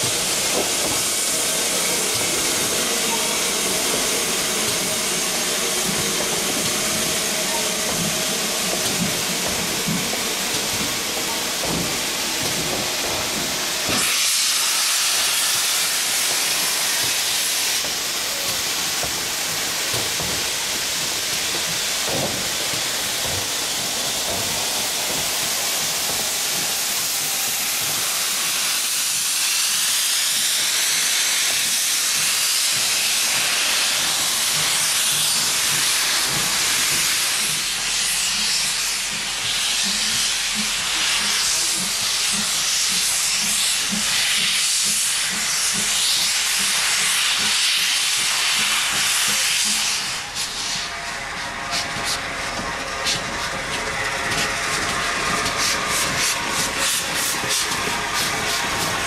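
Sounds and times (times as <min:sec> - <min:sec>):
steam hissing from locomotives: 0:00.0 - 0:59.0.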